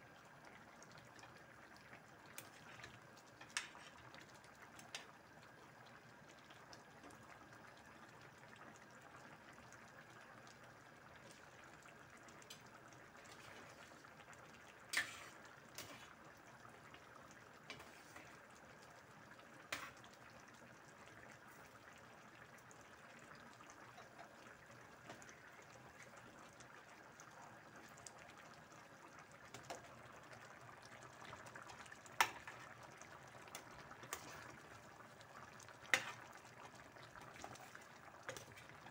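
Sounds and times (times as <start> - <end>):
stew bubbling: 0.0 - 38.9.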